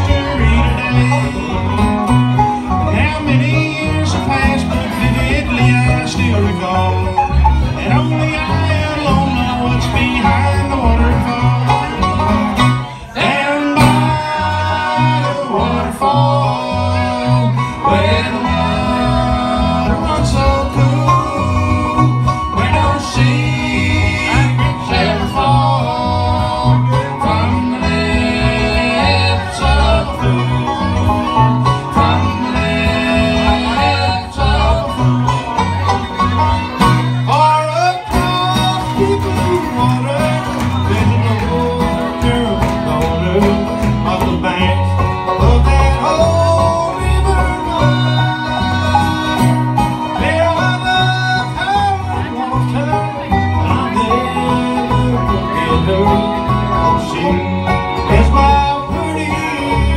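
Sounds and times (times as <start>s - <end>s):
bluegrass band playing: 0.0s - 59.9s
fiddle: 0.0s - 59.9s.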